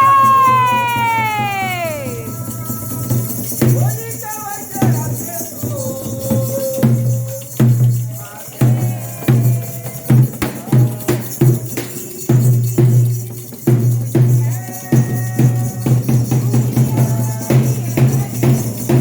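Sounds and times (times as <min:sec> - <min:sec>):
voices singing: 0:00.0 - 0:12.1, 0:14.1 - 0:19.0
drums in driving rhythm: 0:00.0 - 0:19.0.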